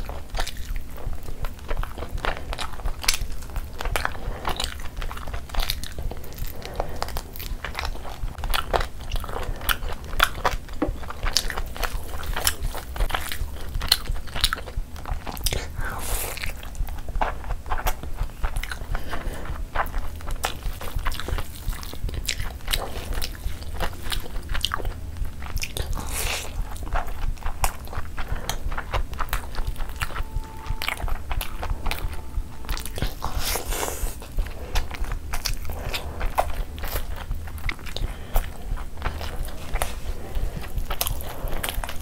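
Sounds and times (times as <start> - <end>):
chewing with lip smacks: 0.0 - 42.0
food squelching: 0.0 - 42.0.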